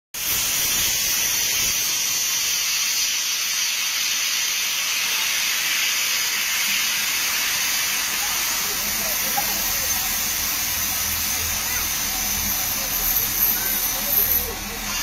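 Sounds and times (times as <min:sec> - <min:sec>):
loud hiss of steam: 0:00.2 - 0:15.0.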